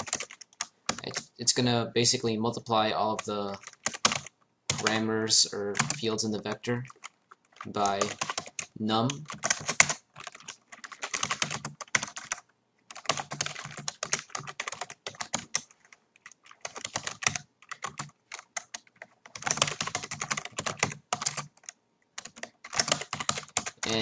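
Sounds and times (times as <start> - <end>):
typing on a computer keyboard: 0.0 - 1.3, 3.2 - 5.0, 5.8 - 24.0.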